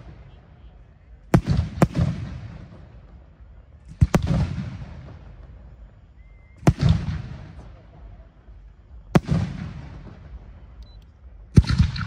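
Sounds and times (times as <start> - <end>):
firework bangs: 0.0 - 7.8, 8.9 - 10.8, 11.5 - 12.0.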